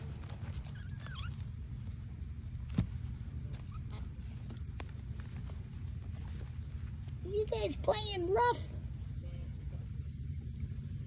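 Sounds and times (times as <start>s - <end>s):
crickets trilling: 0.0s - 11.0s
insect chirping: 0.0s - 11.0s.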